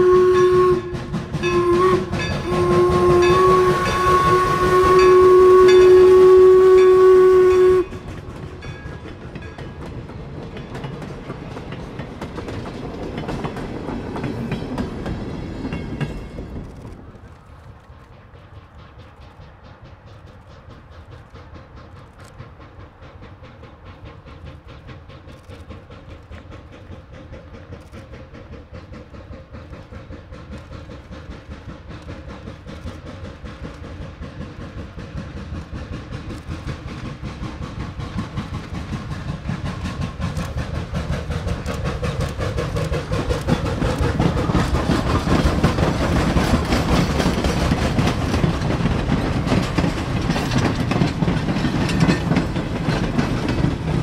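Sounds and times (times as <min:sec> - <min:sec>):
steam locomotive chuffing: 0:00.0 - 0:54.0
train wheels clacking on rails: 0:00.0 - 0:54.0.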